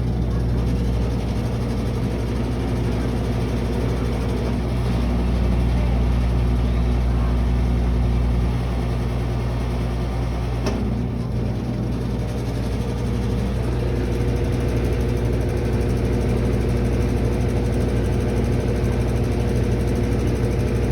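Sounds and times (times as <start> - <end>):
washing machine humming: 0.0 - 20.9.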